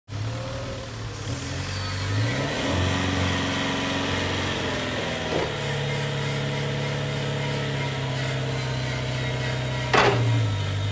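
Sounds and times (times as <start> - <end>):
diesel forklift engine running: 0.1 - 10.9.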